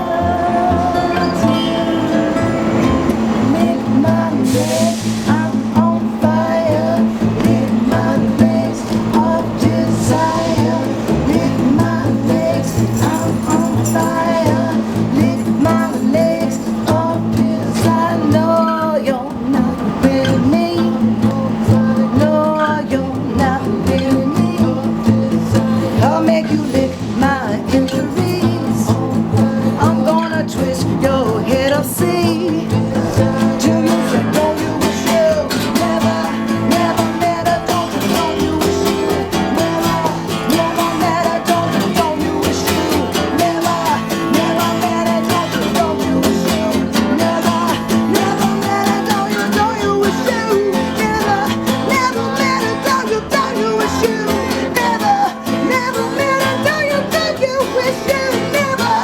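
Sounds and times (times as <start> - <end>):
acoustic guitar: 0.0 - 59.0
upright bass: 0.0 - 59.0
woman singing: 0.0 - 59.0.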